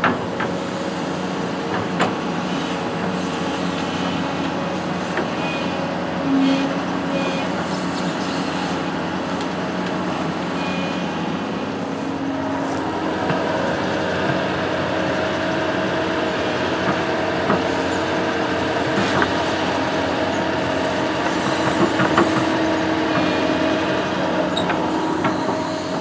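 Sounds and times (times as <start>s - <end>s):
construction machine engine droning: 0.0s - 26.0s.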